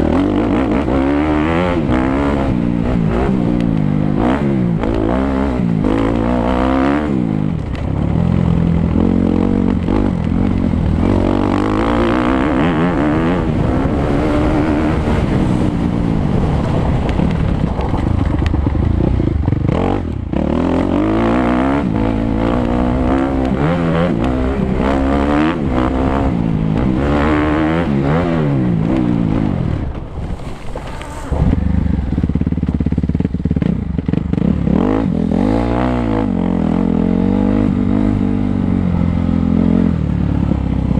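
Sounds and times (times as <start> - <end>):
motocross bike engine revving: 0.0 - 16.8, 18.6 - 30.0, 30.7 - 40.9.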